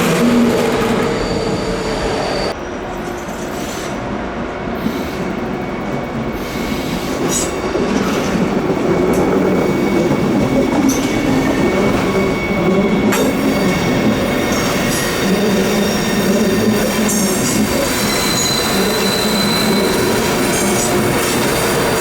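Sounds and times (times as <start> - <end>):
passing train rumble: 0.0 - 22.0
train wheels squealing: 0.0 - 22.0.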